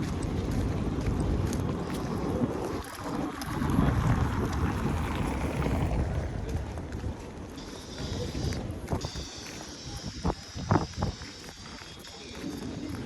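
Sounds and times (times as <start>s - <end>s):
street noise rumble: 0.0s - 13.0s
wind buffeting microphone: 0.0s - 13.0s.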